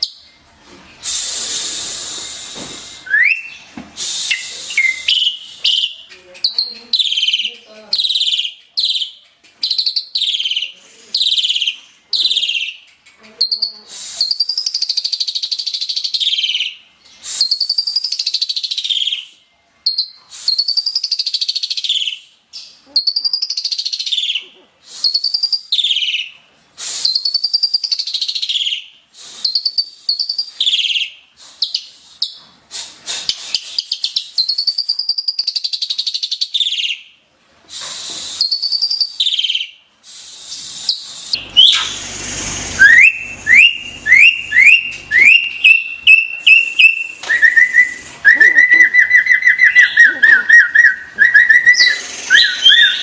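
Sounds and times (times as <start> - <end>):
starling singing whistles and chatter: 1.0 - 37.1, 37.7 - 53.0.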